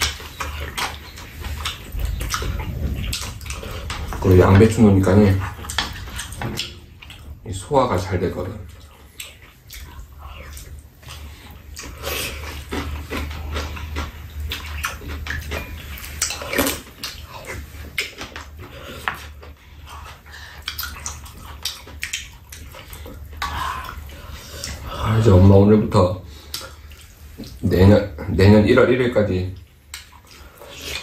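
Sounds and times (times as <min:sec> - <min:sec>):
chewing and wet mouth sounds: 0:00.0 - 0:31.0
steady low hum: 0:00.0 - 0:31.0.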